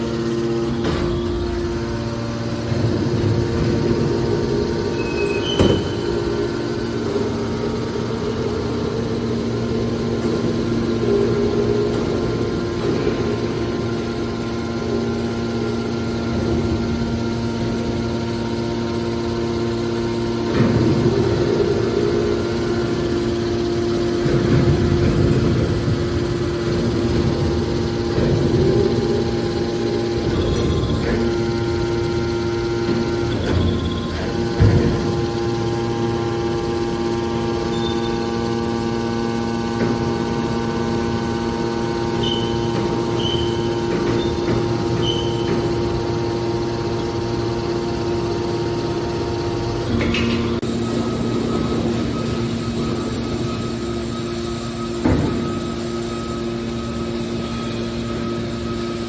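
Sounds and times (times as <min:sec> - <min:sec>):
machine power unit humming: 0:00.0 - 0:59.0.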